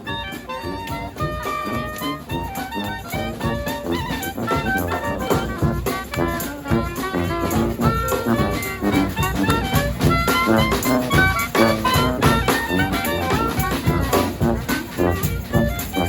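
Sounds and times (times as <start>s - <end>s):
drums keeping steady beat: 0.0s - 16.0s
saxophones: 0.0s - 16.0s
trombones: 0.0s - 16.0s
trumpets: 0.0s - 16.0s.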